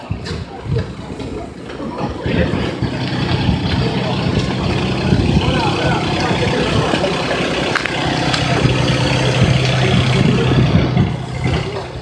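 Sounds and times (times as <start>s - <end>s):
engine idling: 0.2s - 12.0s.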